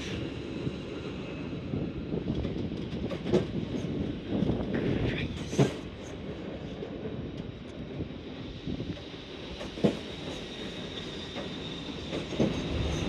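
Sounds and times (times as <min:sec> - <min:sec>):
train wheels rumbling on rails: 0:00.0 - 0:13.0
train wheels clacking: 0:02.1 - 0:13.0.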